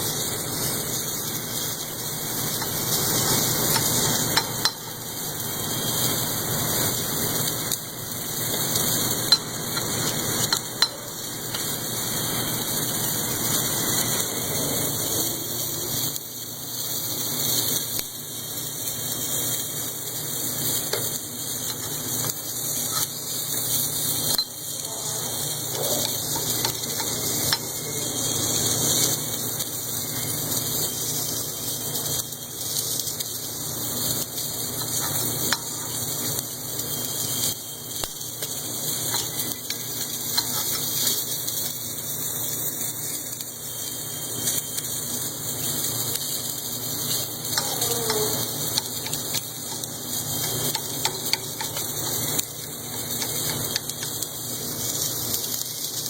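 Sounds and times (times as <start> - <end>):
machine sizzling hiss: 0.0 - 56.0.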